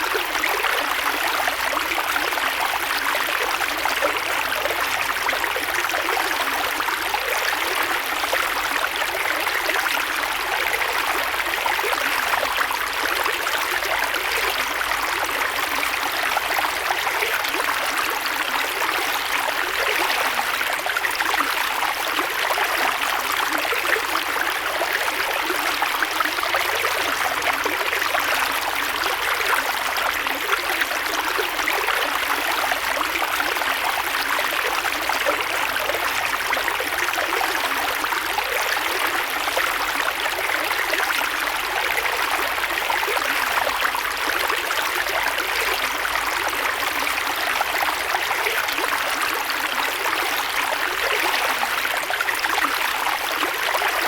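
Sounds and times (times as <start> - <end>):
creek water flowing over rocks: 0.0 - 54.0.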